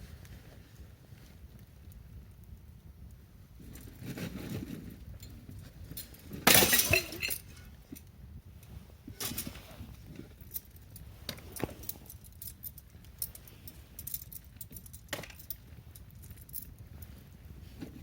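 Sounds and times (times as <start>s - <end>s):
low fire rumble: 0.0s - 18.0s.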